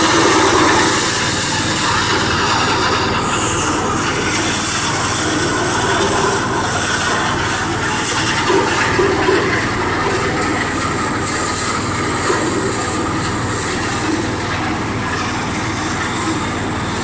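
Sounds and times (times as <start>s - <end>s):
rice milling machine running: 0.0s - 17.0s.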